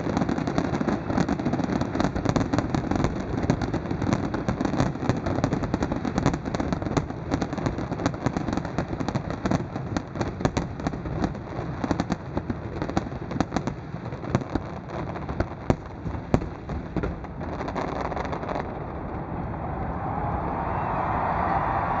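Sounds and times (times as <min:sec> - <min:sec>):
fireworks cracks and bangs: 0:00.0 - 0:20.2.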